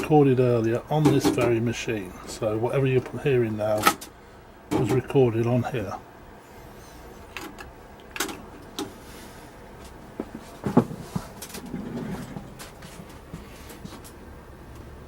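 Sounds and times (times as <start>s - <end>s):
tape hiss and hum: 0.0s - 15.0s.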